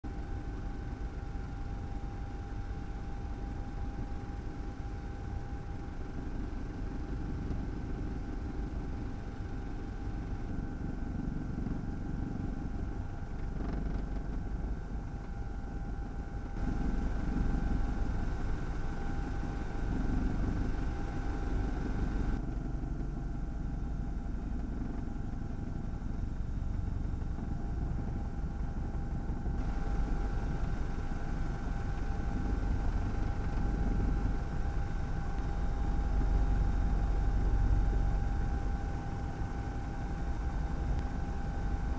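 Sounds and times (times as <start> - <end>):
helicopter engine and rotor: 0.1 - 41.9.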